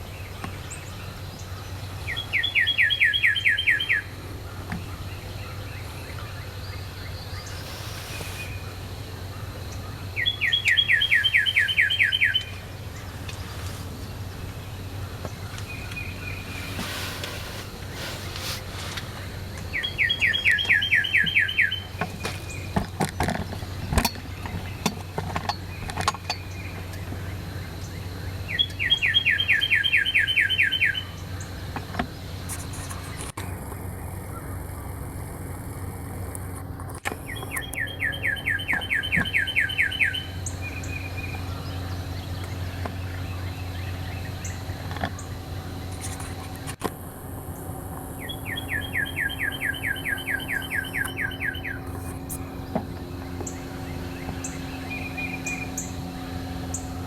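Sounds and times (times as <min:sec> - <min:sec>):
songbird whistling song: 0:00.0 - 0:17.0, 0:17.9 - 0:22.8, 0:23.6 - 0:32.6, 0:37.1 - 0:45.4, 0:48.2 - 0:57.0.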